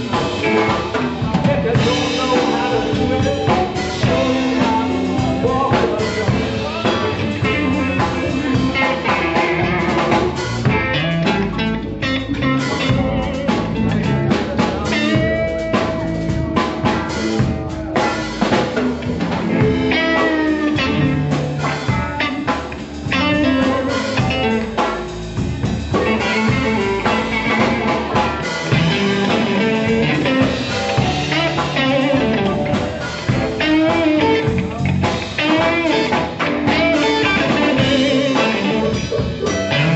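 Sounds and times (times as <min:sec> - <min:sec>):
blues band playing: 0:00.0 - 0:39.9
electric guitar: 0:00.0 - 0:39.9.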